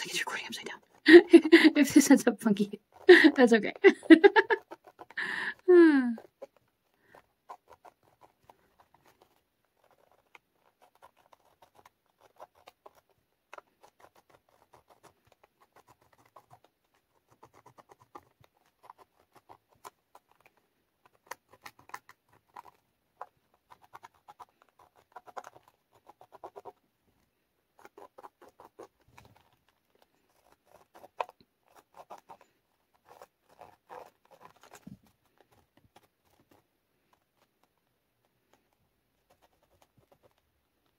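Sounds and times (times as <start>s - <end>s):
marker scratching on paper: 0.0s - 6.5s, 7.2s - 20.4s, 21.1s - 26.8s, 27.7s - 37.4s.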